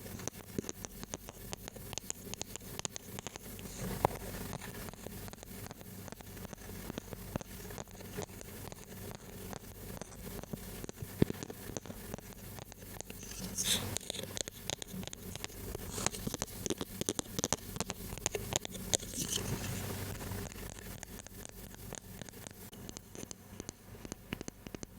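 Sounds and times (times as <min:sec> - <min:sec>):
crinkly scratching: 0:00.0 - 0:24.6
light tapping clicks: 0:00.0 - 0:24.9.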